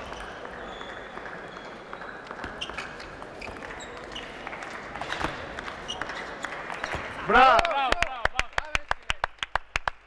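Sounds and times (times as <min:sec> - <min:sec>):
murmur of arena crowd: 0:00.0 - 0:10.0.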